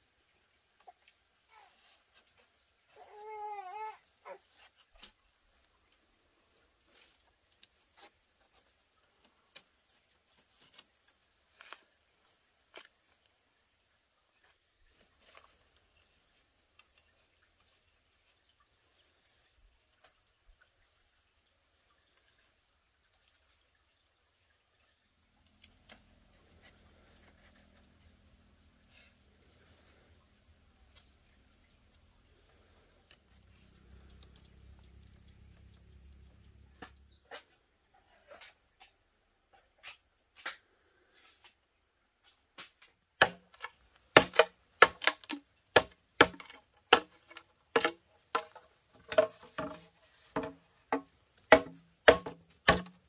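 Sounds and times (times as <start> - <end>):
insect chorus chirring: 0.0 - 53.0.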